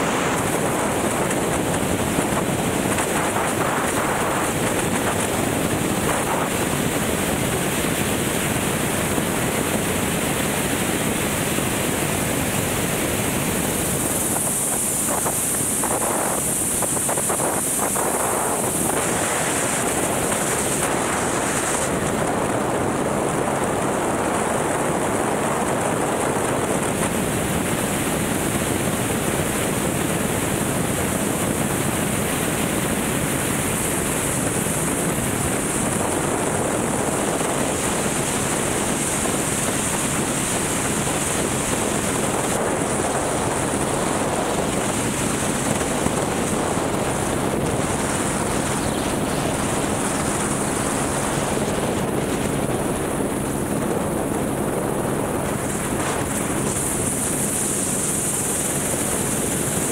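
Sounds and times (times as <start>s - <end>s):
helicopter running: 0.0s - 59.9s
wind rushing on microphone: 0.0s - 59.9s.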